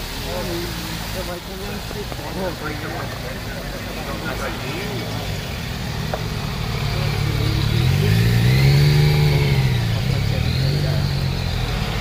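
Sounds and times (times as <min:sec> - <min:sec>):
tyres hissing on wet road: 0:00.0 - 0:12.0
vehicle engines passing: 0:00.0 - 0:12.0.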